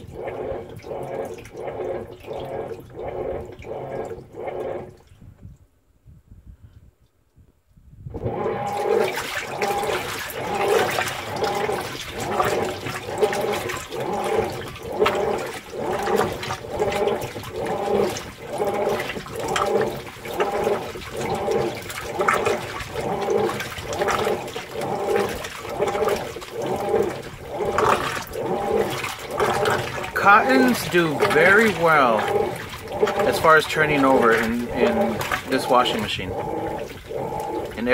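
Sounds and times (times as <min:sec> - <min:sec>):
washer motor hum: 0:00.0 - 0:05.6, 0:08.0 - 0:37.9
water sloshing in a washer: 0:00.0 - 0:05.6, 0:08.1 - 0:37.9.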